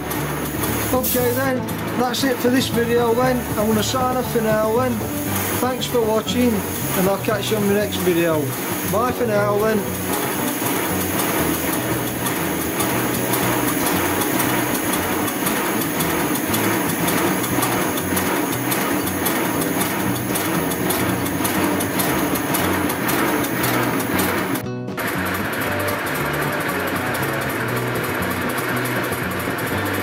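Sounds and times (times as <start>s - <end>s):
rapid mechanical clatter of wheels: 0.0s - 30.0s.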